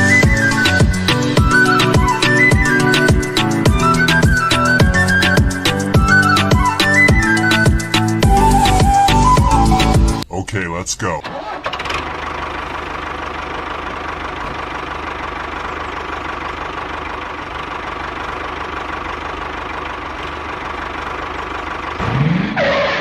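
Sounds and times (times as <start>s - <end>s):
tractor engine humming and whining: 0.0s - 10.3s, 11.2s - 23.0s.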